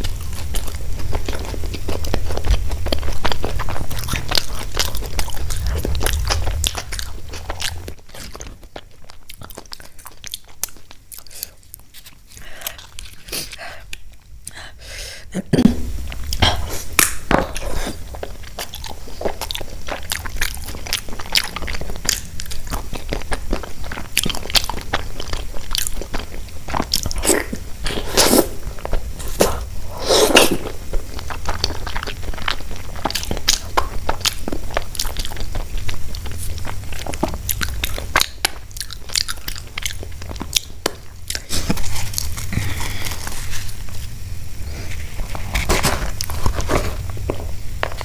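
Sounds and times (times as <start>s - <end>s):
crunchy chewing: 0.0s - 14.6s, 16.0s - 48.0s.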